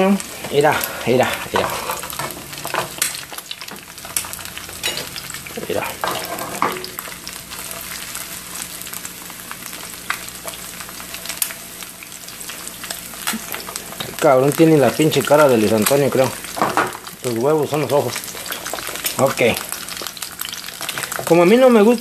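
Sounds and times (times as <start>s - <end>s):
eggs sizzling in a pan: 0.0s - 22.0s
fat crackling and popping: 0.0s - 22.0s.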